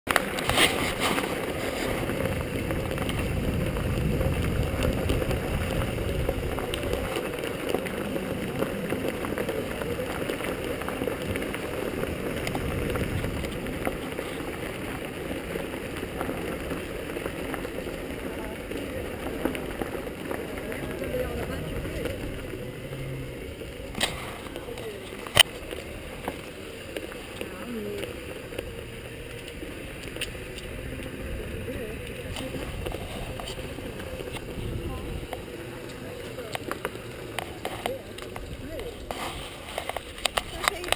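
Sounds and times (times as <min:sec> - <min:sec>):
camera rumble and rattle: 0:00.1 - 0:40.9
wind buffeting microphone: 0:00.3 - 0:40.9.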